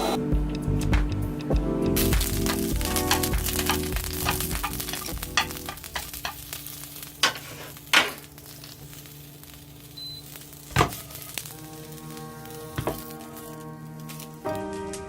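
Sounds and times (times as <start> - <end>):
food sizzling in a pan: 2.0 - 14.5.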